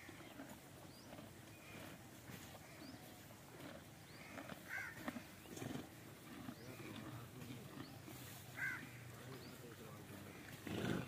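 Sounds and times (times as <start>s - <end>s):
zebras tearing and chewing grass: 0.0s - 9.1s.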